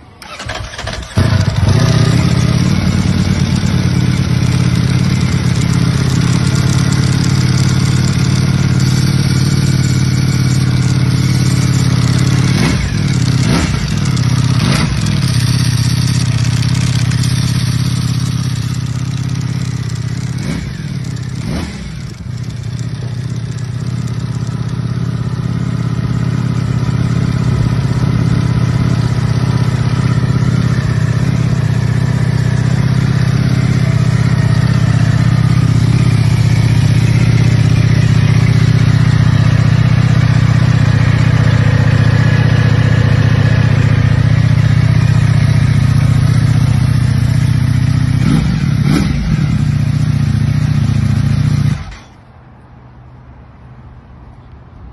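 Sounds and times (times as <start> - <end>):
motorcycle engine idling: 0.0 - 52.1.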